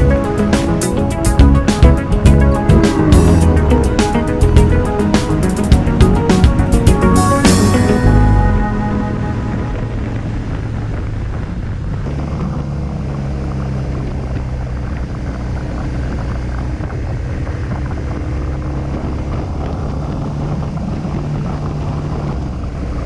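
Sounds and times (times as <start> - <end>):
motorcycle engine cruising: 0.0 - 22.9
road noise: 0.0 - 23.0.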